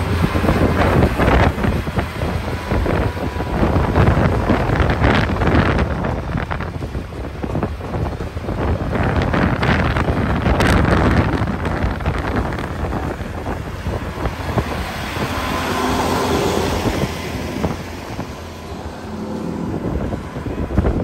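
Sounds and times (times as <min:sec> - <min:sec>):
faint engine hum: 0:00.0 - 0:21.0
wind buffeting microphone: 0:00.0 - 0:21.0.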